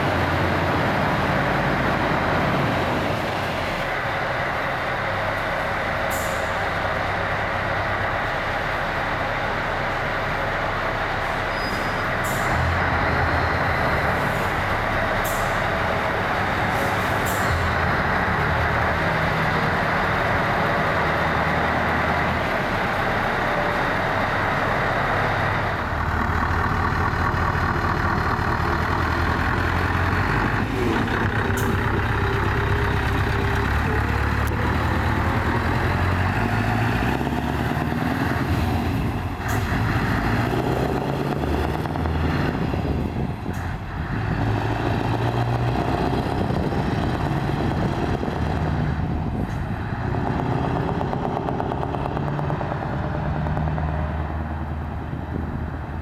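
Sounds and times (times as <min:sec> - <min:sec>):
truck engine driving past: 0:00.0 - 0:56.0.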